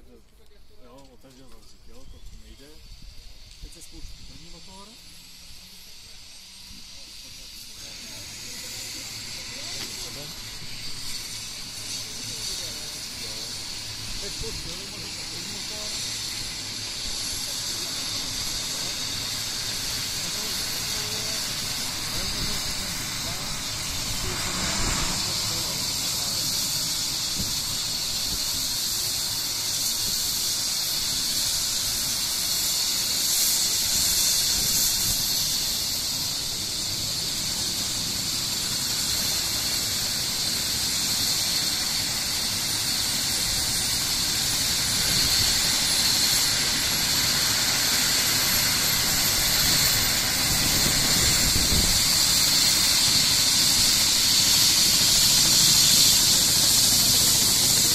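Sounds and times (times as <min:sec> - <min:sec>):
helicopter turbine starting up: 0:00.0 - 0:57.9
rising turbine whistle: 0:01.7 - 0:57.9.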